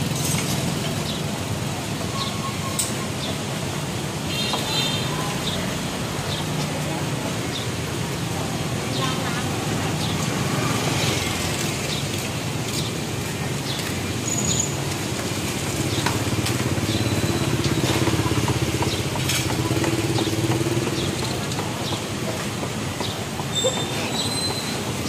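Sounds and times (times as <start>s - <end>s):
street market noise: 0.0s - 25.0s.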